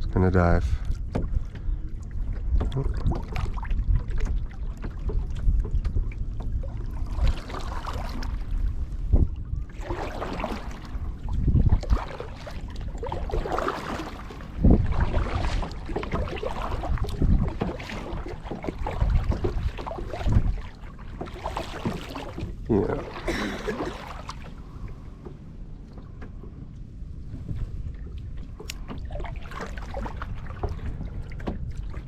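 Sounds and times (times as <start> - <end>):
paddle splashing water: 0.7 - 32.0.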